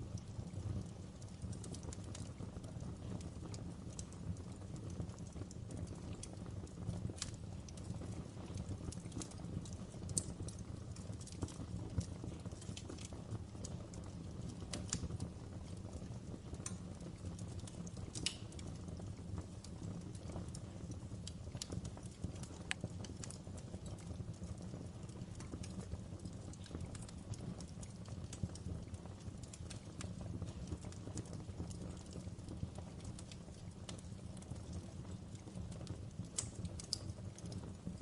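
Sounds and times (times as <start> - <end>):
fire pops and snaps: 0.0 - 38.0
wood fire crackling: 0.0 - 38.0.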